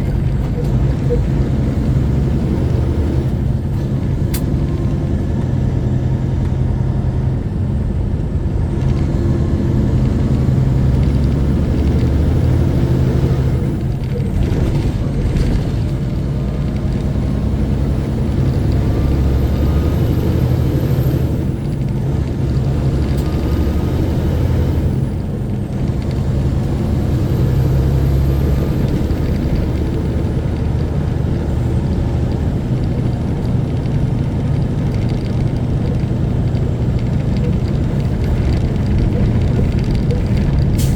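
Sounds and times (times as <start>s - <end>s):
truck diesel engine rumble: 0.0s - 40.9s.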